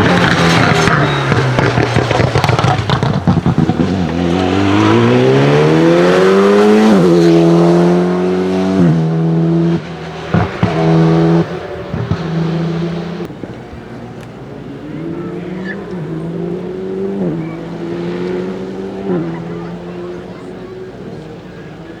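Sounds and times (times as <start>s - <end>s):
exhaust crackling and popping: 0.0s - 22.0s
rally car engine accelerating: 0.0s - 22.0s.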